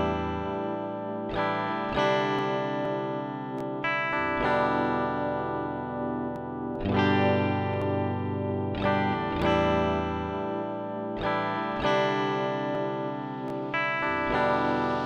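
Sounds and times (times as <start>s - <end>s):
slow guitar chords: 0.0s - 15.0s.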